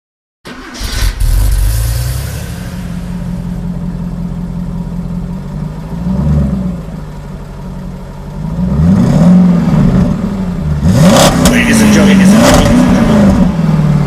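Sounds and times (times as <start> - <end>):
car engine revving: 0.5 - 14.0.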